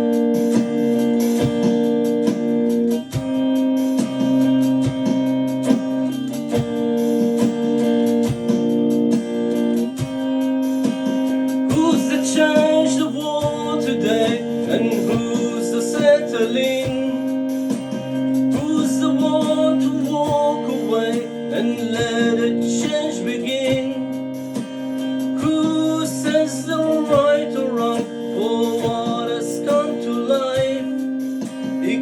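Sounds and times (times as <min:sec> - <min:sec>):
plucked guitar-like notes: 0:00.0 - 0:32.0.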